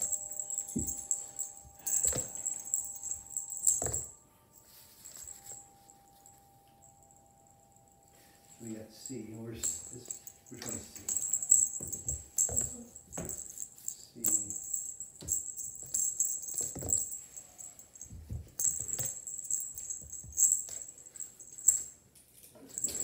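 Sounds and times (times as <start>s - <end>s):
toy jingling: 0.0s - 6.3s, 8.9s - 22.0s, 22.6s - 23.0s.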